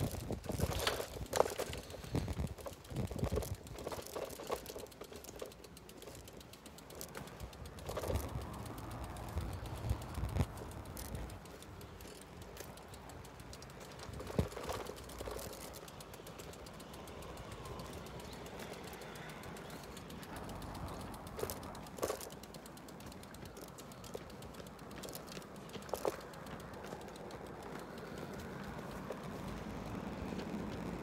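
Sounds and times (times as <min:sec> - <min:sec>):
faint birds: 0:00.5 - 0:30.4.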